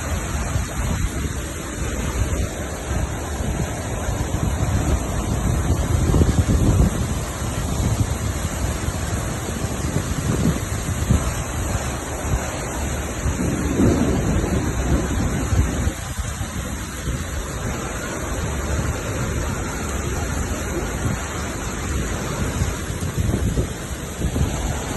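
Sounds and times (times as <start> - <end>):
heavy rain pouring: 0.0 - 24.9
thunder rumbling: 0.0 - 24.9.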